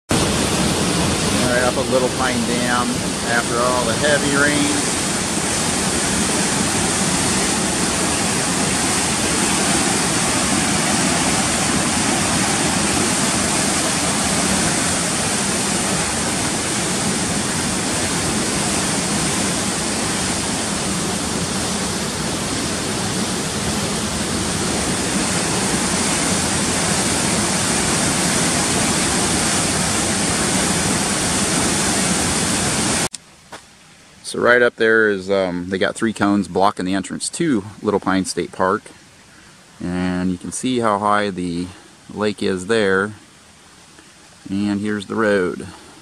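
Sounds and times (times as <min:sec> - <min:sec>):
floodwater rushing: 0:00.1 - 0:46.0.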